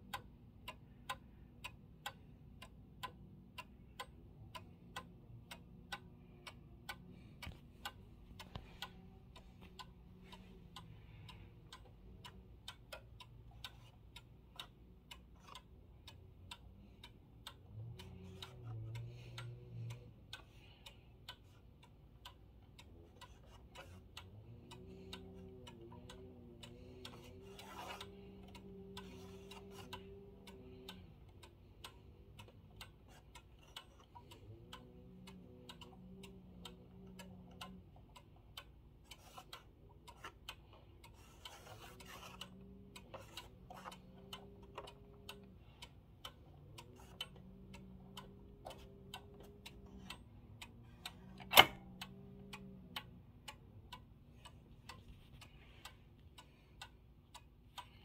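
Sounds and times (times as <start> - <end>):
pendulum clock ticking: 0.0 - 58.0.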